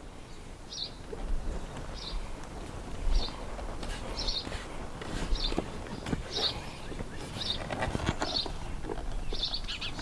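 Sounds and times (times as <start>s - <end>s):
wind buffeting microphone: 0.1s - 10.0s.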